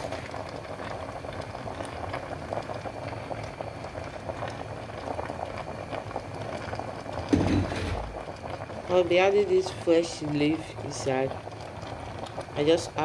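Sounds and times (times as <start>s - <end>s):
pot of meat bubbling: 0.0s - 13.0s.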